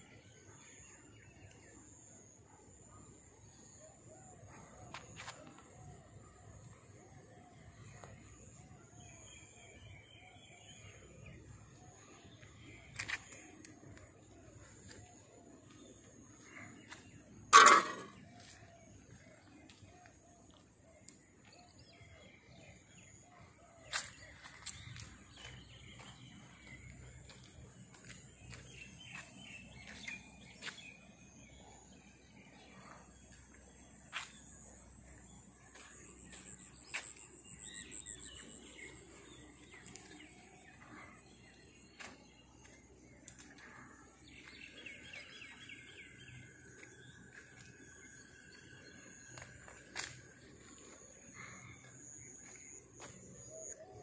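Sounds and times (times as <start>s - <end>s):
faint birdsong: 0.0s - 54.0s
steady high-pitched whine: 0.0s - 54.0s.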